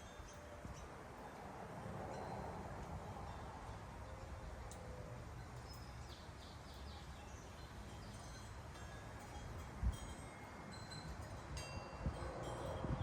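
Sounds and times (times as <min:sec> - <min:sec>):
wind chimes tinkling: 0:00.0 - 0:13.0.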